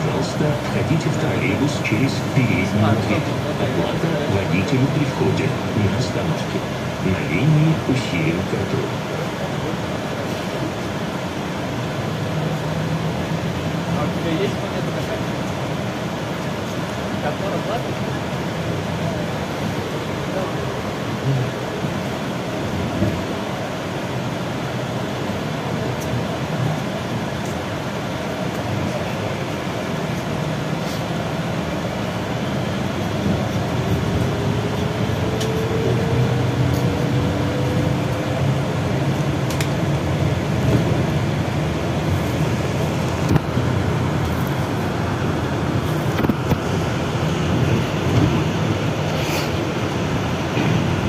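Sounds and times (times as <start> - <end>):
road and tyre noise: 0.0 - 51.0.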